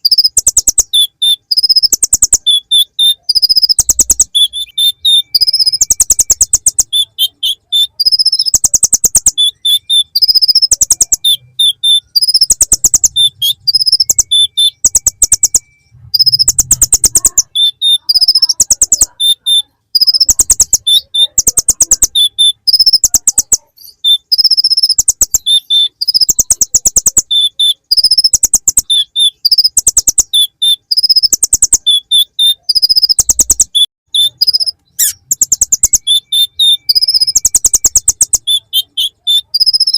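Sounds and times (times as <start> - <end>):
sunbird song with buzzing trills: 0.0 - 39.9.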